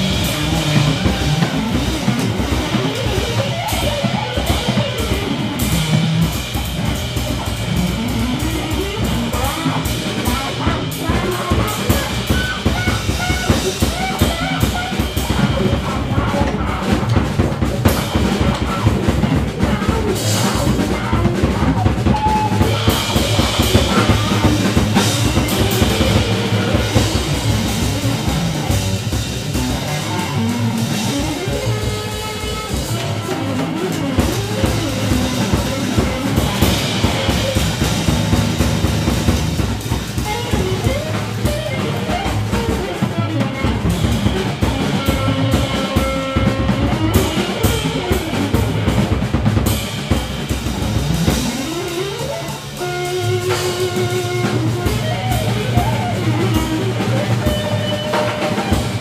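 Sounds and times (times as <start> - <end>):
double bass: 0.0 - 49.6
drum kit playing: 0.0 - 59.0
guitar: 0.0 - 59.0.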